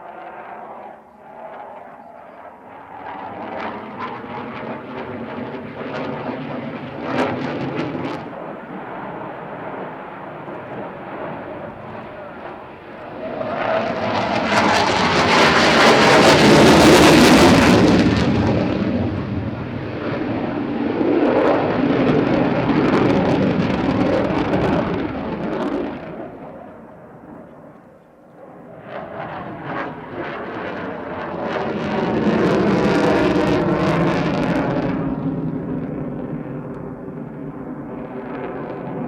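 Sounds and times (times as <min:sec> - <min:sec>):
jet engine noise passing: 0:00.0 - 0:39.0.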